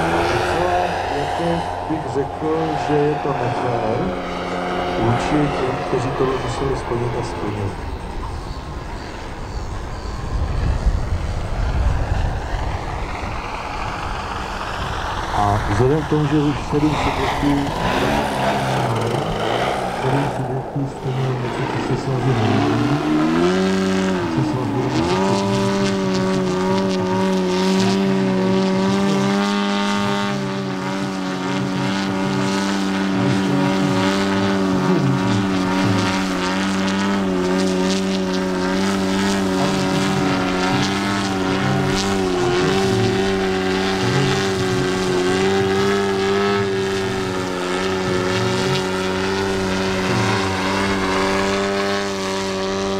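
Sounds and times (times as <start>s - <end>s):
model plane engine in flight: 0.0s - 52.9s.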